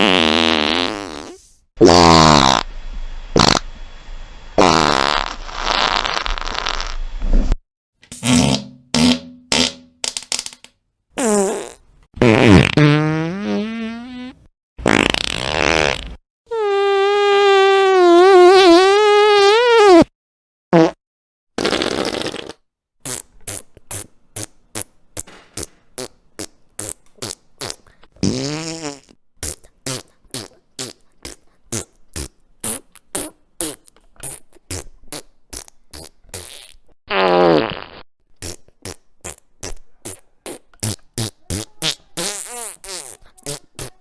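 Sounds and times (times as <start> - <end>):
long pitched farts: 0.0 - 2.7, 3.4 - 3.7, 4.6 - 10.2, 11.2 - 20.1, 20.7 - 21.0, 21.6 - 39.4
rapid short farts: 0.0 - 2.7, 3.4 - 3.6, 4.6 - 10.4, 11.2 - 20.1, 20.7 - 21.0, 21.6 - 44.0.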